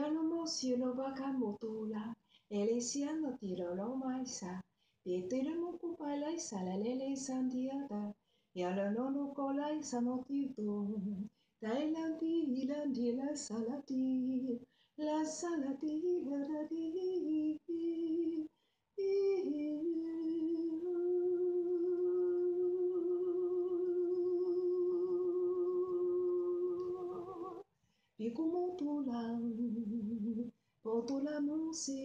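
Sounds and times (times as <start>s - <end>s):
woman singing without words: 0.0s - 27.6s, 28.2s - 32.0s.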